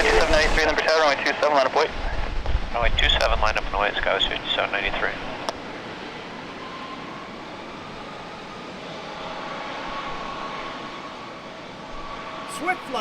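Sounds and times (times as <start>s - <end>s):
faint high whine: 0.0s - 13.0s
jet engines rushing: 0.0s - 13.0s.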